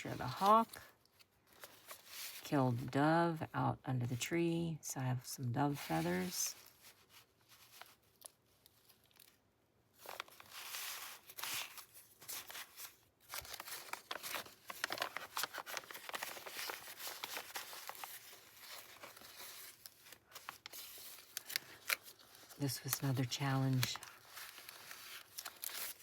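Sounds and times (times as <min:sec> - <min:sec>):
paper pages rustling and crinkling: 0:00.0 - 0:02.9, 0:05.8 - 0:26.0.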